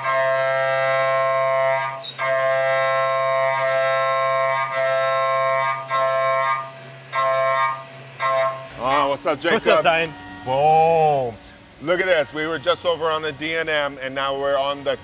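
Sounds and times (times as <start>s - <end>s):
high-pitched milling whine: 0.0s - 15.0s
low machine hum: 0.0s - 15.0s.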